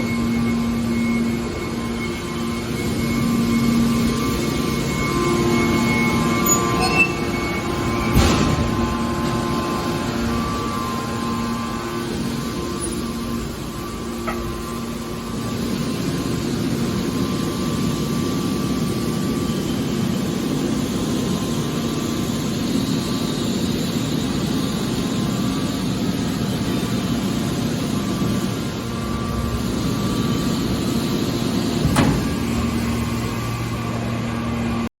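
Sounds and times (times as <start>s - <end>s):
baler mechanical hum: 0.0s - 34.9s.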